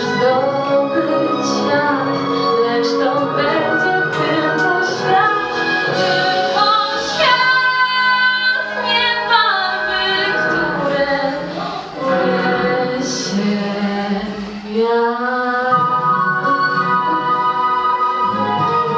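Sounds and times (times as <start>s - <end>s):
woman singing: 0.0s - 17.6s
instrumental backing track: 0.0s - 18.9s.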